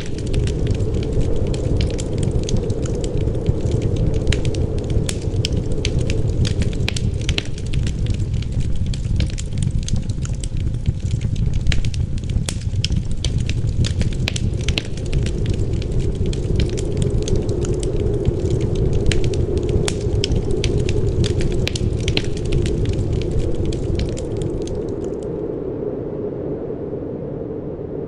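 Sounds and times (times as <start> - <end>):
sharp pops and snaps: 0.0 - 25.3
wood fire crackling: 0.0 - 25.6
low rumble of wind: 0.0 - 28.0.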